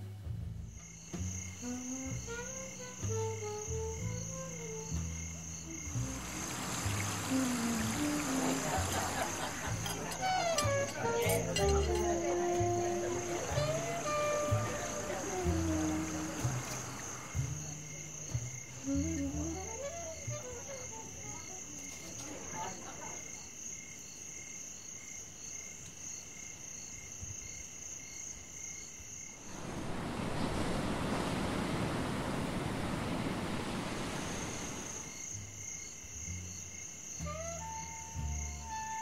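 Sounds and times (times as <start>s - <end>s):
crickets chirping: 0.2s - 39.0s.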